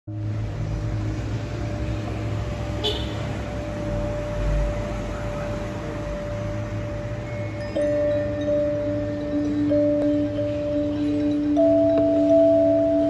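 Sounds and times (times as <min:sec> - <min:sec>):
city street traffic rumble: 0:00.1 - 0:13.0.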